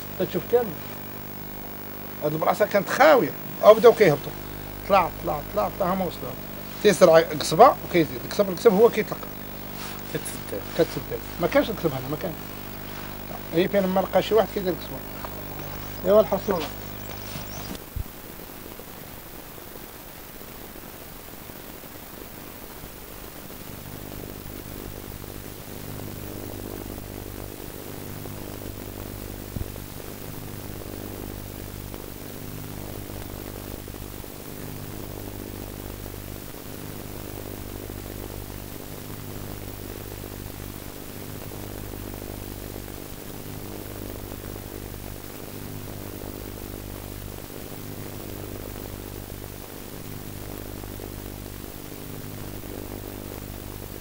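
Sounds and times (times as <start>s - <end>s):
electrical hum and buzz: 0.0s - 54.0s
tape hiss: 0.0s - 54.0s.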